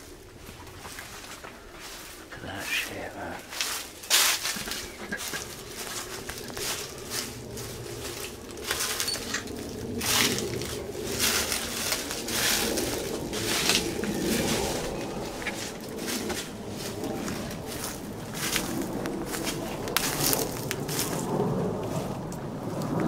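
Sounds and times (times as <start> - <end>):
footsteps crunching dry leaves: 0.0 - 23.0.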